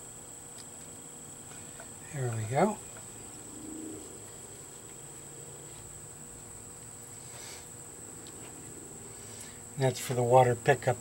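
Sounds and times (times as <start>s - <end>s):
faint low hum: 0.0s - 11.0s
insects chirring: 0.0s - 11.0s.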